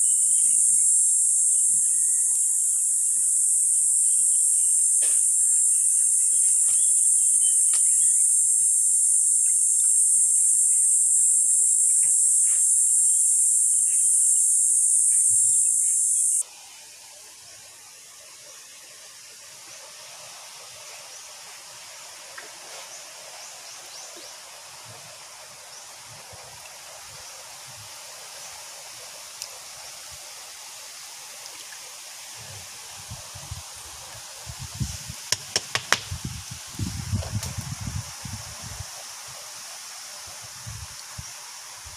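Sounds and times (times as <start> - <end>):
insects droning in chorus: 0.0 - 41.9.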